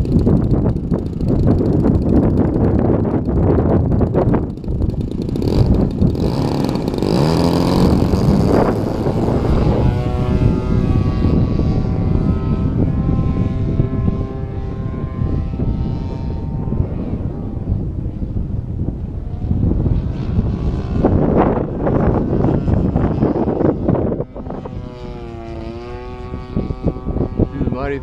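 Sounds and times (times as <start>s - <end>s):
model airplane engine droning: 0.0s - 28.0s
wind buffeting microphone: 0.0s - 28.0s.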